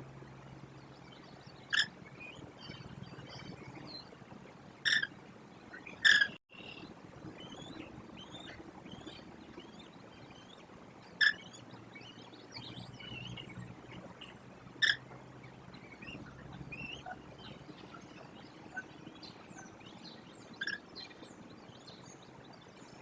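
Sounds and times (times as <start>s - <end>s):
faint bird chirps: 0.0s - 4.2s, 4.8s - 23.0s
low steady hum: 0.0s - 23.0s
loud sharp bird calls: 0.9s - 4.0s, 4.8s - 23.0s.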